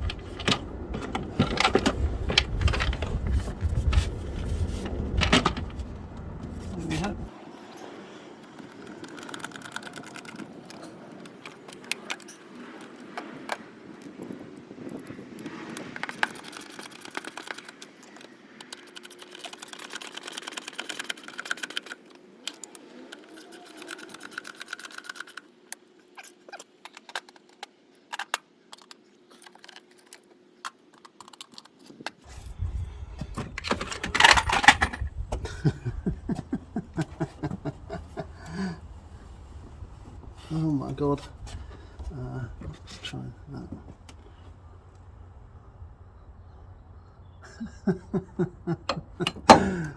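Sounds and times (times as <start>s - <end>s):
clicks and rattles of parts and tools: 0.0s - 39.4s, 48.6s - 49.9s.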